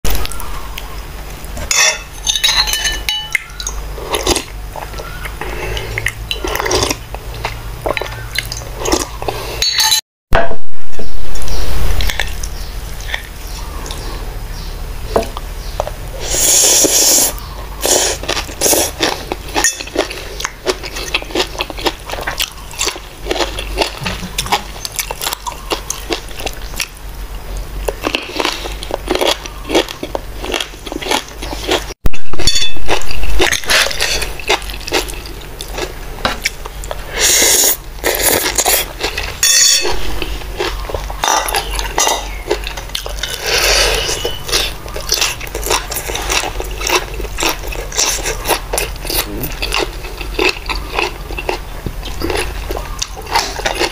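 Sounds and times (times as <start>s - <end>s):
crunching and chewing vegetables: 0.1s - 9.6s, 11.4s - 53.9s
steady low hum: 0.1s - 53.9s.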